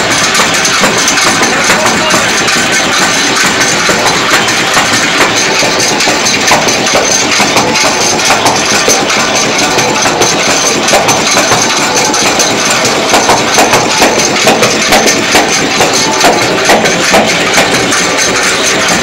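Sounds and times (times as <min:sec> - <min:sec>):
machine drum and pestle churning: 0:00.0 - 0:19.0.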